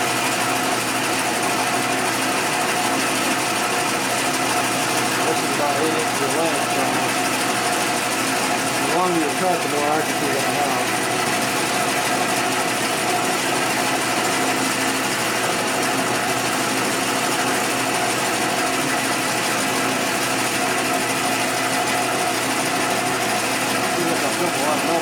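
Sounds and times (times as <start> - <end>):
metal lathe humming: 0.0 - 25.0.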